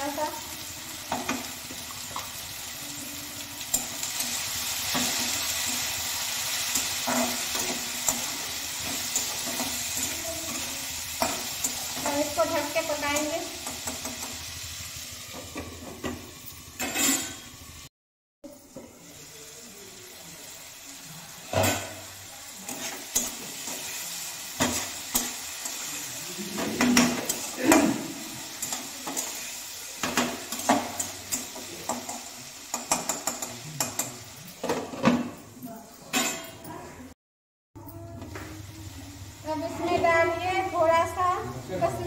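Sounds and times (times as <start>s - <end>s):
potatoes sizzling in oil: 0.0s - 17.9s, 18.5s - 34.6s, 38.3s - 42.0s.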